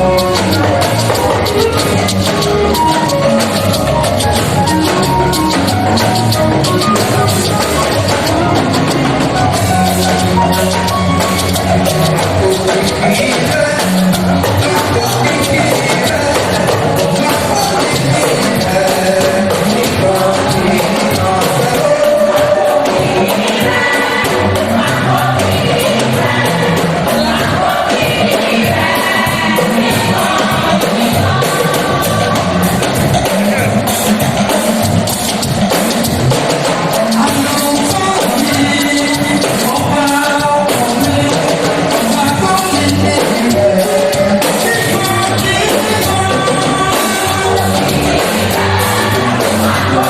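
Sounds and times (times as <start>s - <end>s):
bass line: 0.0s - 50.0s
choir singing gospel song: 0.0s - 50.0s
drums keeping a steady beat: 0.0s - 50.0s.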